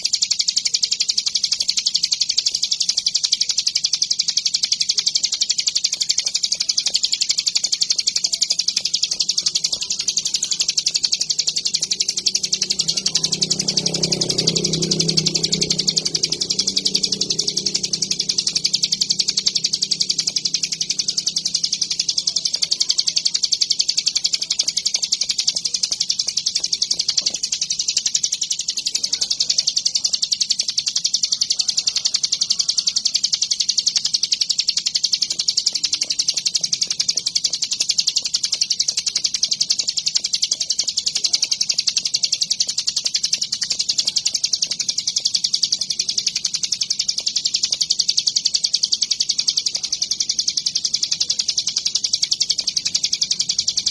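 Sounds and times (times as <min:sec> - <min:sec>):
bird trilling high-pitched: 0:00.0 - 0:53.9.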